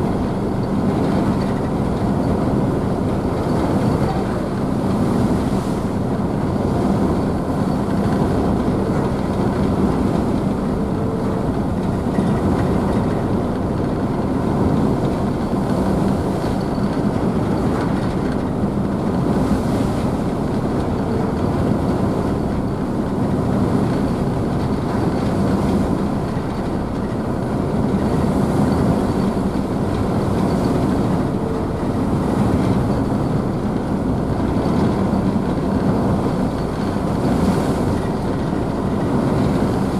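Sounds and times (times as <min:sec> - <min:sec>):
ship engines rumbling: 0:00.0 - 0:39.9.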